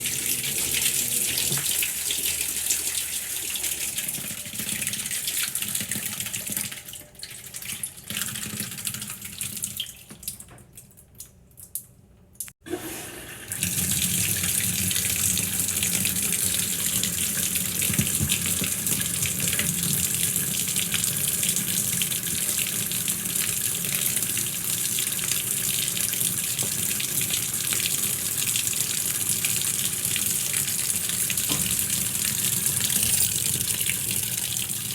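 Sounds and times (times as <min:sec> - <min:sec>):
water running from a tap: 0:00.0 - 0:10.5, 0:12.6 - 0:34.9.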